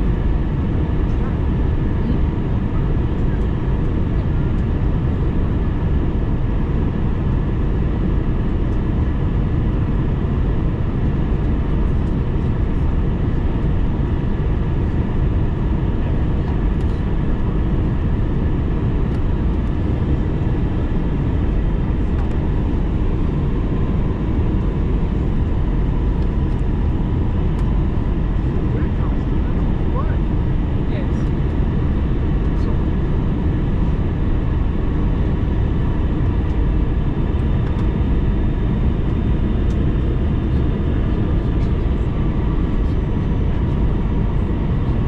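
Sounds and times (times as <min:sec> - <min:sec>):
airliner cabin roar: 0:00.0 - 0:45.0.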